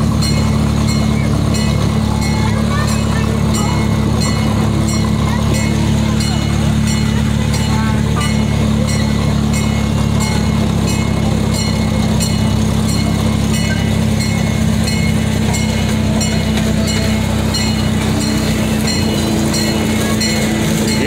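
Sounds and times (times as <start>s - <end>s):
miniature train engine hum: 0.0s - 21.0s.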